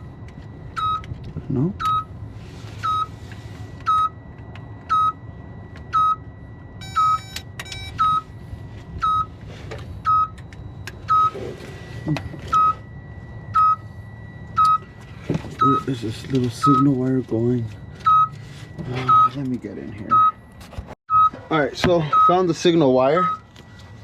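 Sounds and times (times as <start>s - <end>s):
truck warning alarm beeping: 0.0s - 20.5s, 21.1s - 24.0s.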